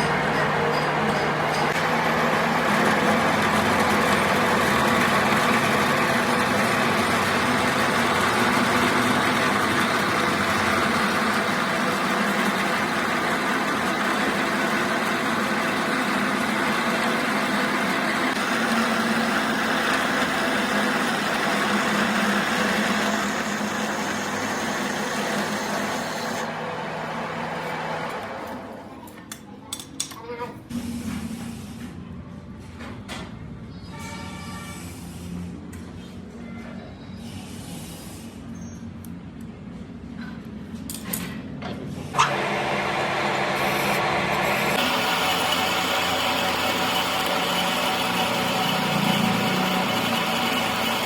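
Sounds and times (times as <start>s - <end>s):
workshop machine humming: 0.0s - 29.7s, 37.3s - 51.0s.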